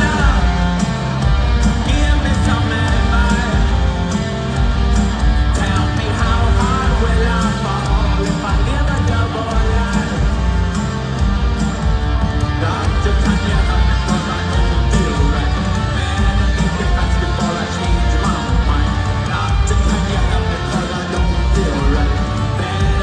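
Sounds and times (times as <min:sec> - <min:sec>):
live rock band playing: 0:00.0 - 0:23.0
singer's voice: 0:00.0 - 0:23.0.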